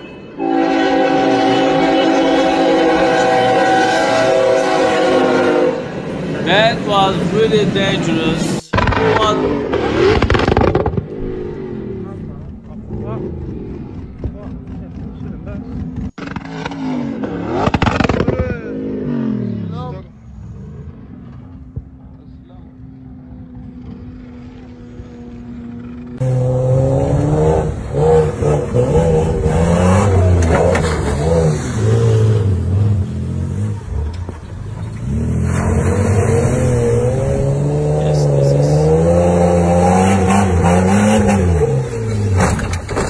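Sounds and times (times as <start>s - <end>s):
truck engines revving: 0.0s - 43.0s.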